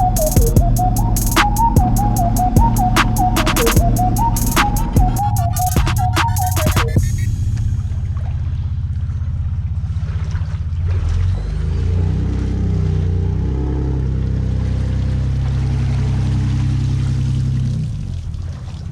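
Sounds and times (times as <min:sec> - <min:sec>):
water splashing: 0:00.0 - 0:18.9.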